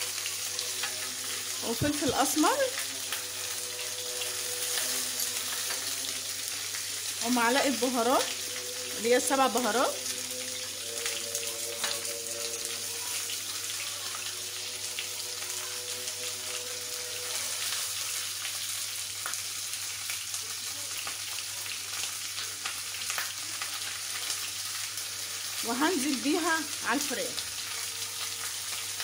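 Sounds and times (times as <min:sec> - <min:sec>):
chicken sizzling in oil: 0:00.0 - 0:29.0.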